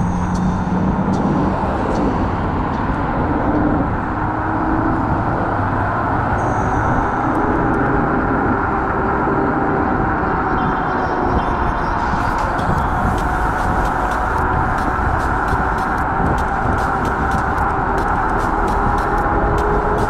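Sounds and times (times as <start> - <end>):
faint vehicle engines: 0.0 - 20.0
road rumble: 0.0 - 20.0
wind noise: 0.0 - 20.0.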